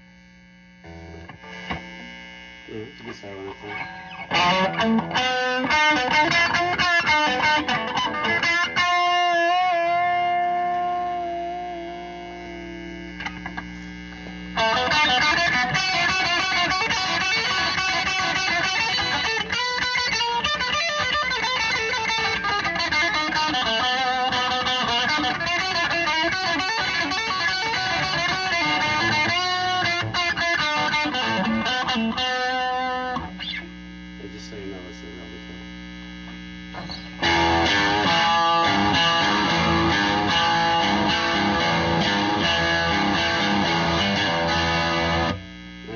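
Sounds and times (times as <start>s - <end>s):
distorted electric guitar: 0.0s - 45.9s.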